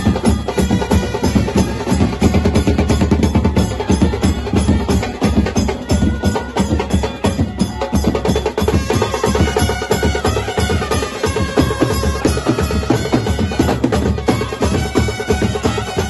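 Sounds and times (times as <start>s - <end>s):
bass drums and side drums playing: 0.0s - 16.0s.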